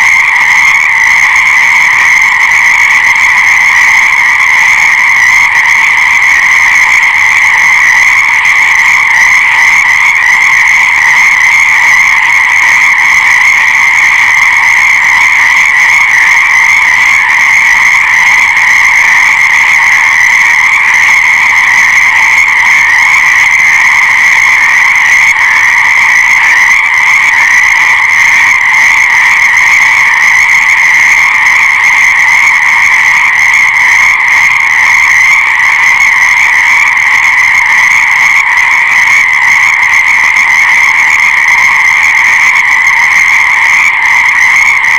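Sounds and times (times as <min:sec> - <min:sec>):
chorus of frogs calling: 0:00.0 - 0:44.9.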